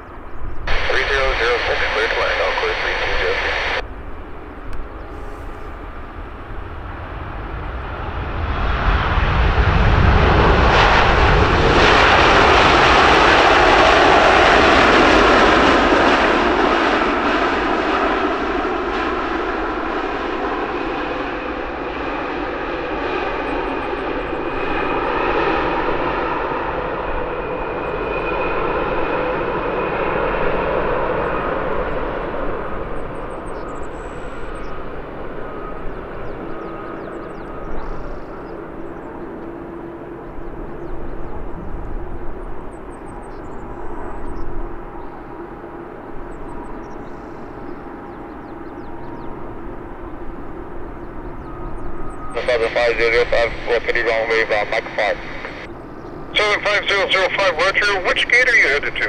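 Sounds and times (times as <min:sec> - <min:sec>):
jet airliner engine rumble: 0:00.0 - 0:59.0.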